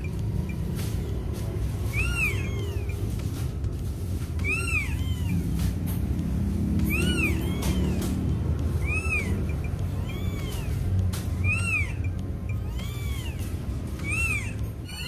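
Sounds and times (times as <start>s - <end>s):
kitten mewing: 1.0s - 3.4s, 4.4s - 15.0s.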